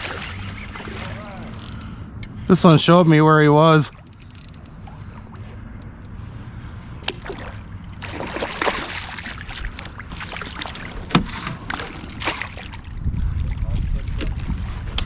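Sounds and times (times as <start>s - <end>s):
water splashing around boat: 0.0s - 2.0s, 3.1s - 15.0s.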